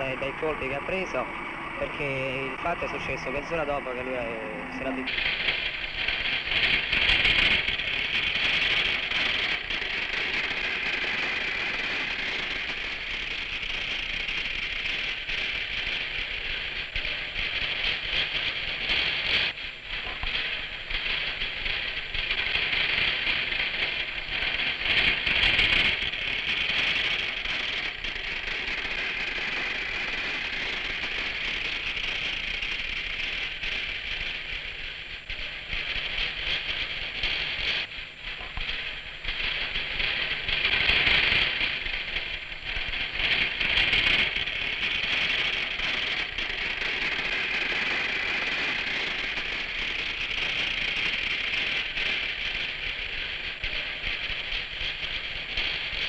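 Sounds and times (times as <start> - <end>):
hissing rattling forklift: 0.0 - 56.0.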